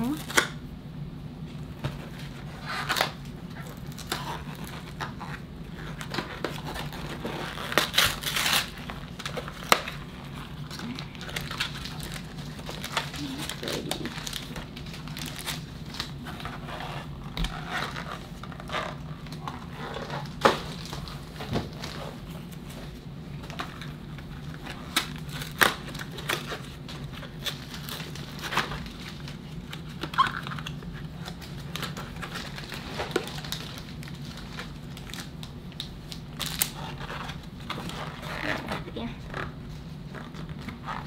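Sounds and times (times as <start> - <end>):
plastic wrapping crinkling and tearing: 0.0 - 0.6, 2.0 - 41.0.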